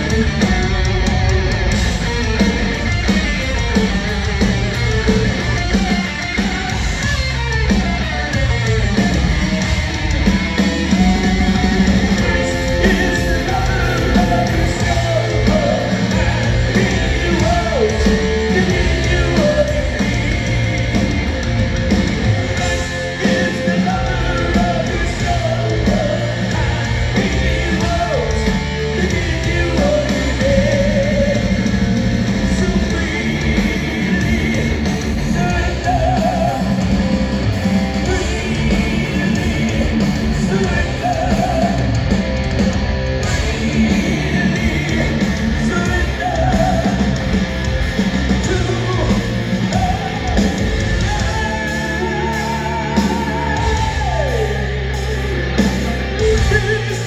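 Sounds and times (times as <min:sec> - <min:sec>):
live heavy metal band: 0:00.0 - 0:57.0
wavering lead guitar line: 0:00.0 - 0:57.0.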